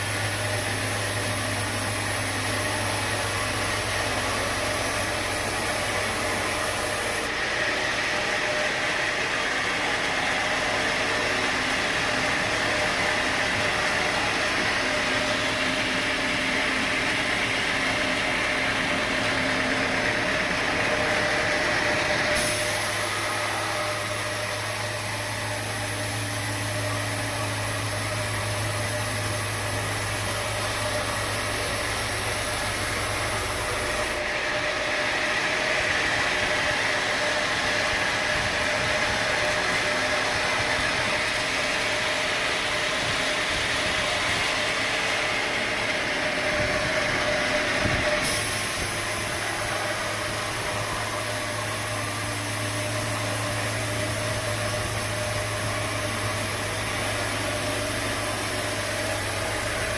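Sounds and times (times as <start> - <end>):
sawmill machine whine: 0.0 - 59.9.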